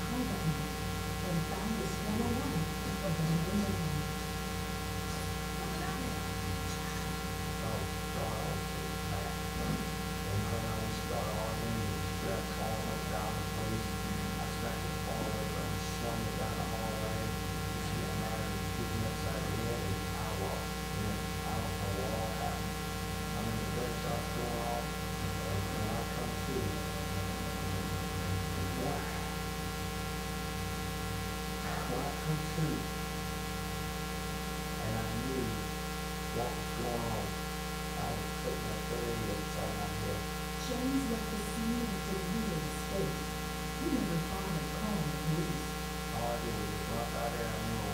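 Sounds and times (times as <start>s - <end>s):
faint indistinct speech: 0.0s - 4.3s, 4.9s - 22.6s, 23.3s - 29.4s, 31.6s - 32.9s, 34.8s - 35.6s, 36.4s - 37.3s, 38.0s - 43.2s, 43.8s - 47.9s
electrical mains hum: 0.0s - 47.9s.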